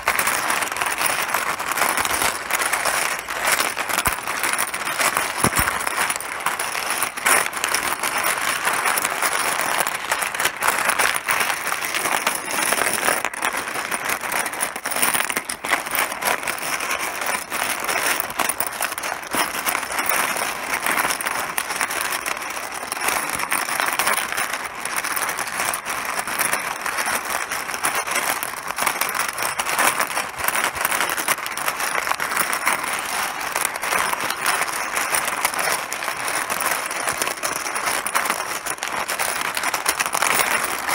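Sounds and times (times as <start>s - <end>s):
mahjong tiles clattering: 0.0s - 40.9s.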